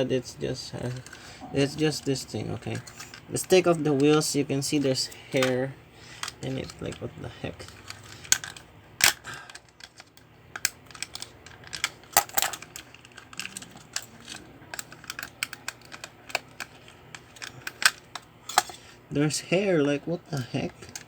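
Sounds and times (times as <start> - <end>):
hard plastic parts clicking: 1.9 - 18.8, 19.8 - 21.0.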